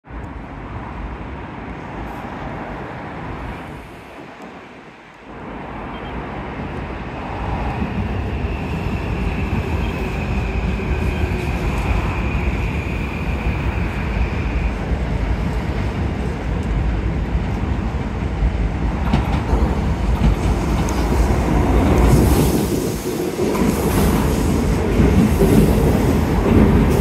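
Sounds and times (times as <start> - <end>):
train wheels rumbling on rails: 5.3 - 27.0.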